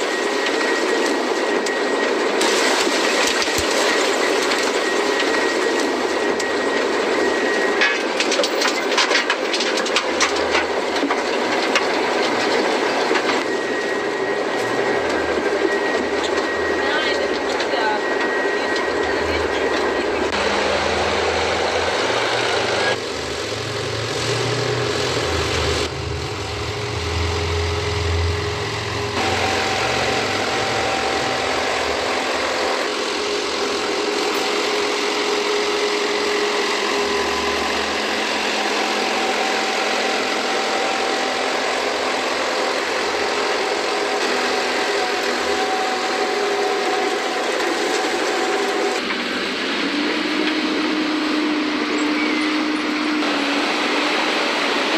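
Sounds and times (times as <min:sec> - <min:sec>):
harvesting machinery engine running: 0:00.0 - 0:54.9.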